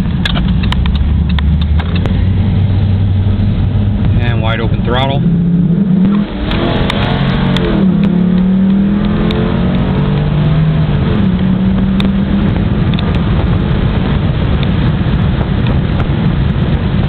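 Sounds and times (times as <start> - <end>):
car engine accelerating: 0.0 - 17.0
road noise: 0.0 - 17.0
wind noise: 0.0 - 17.0.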